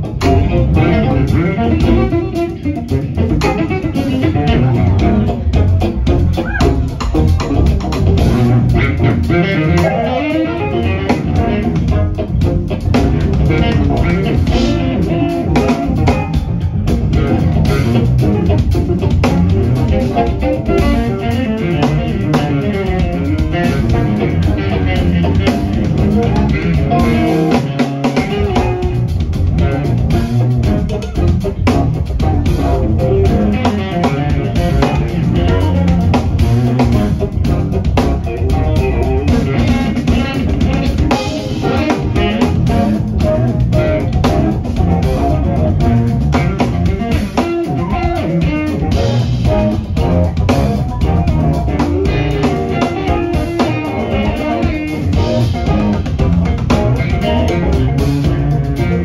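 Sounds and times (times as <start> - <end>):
drum kit: 0.0 - 59.0
electric bass: 0.0 - 59.0
electric guitars: 0.0 - 59.0
keyboard: 0.0 - 59.0.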